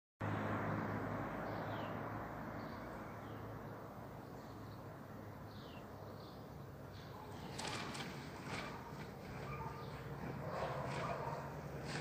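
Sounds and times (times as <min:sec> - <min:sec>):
road noise: 0:00.2 - 0:12.0.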